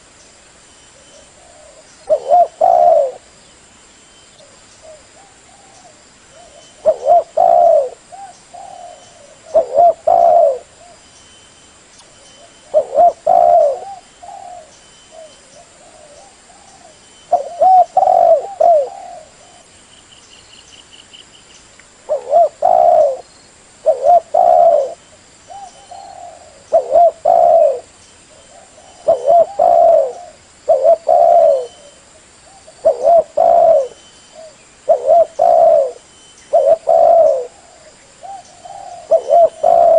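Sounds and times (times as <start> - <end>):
dove cooing: 1.0 - 3.3, 4.4 - 11.0, 12.4 - 19.7, 22.1 - 39.9.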